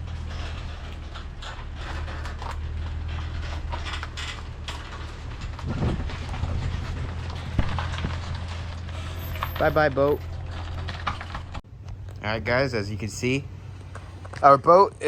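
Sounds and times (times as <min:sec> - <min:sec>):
trailer rattling and clicking: 0:00.0 - 0:15.0
truck engine running low: 0:00.0 - 0:15.0.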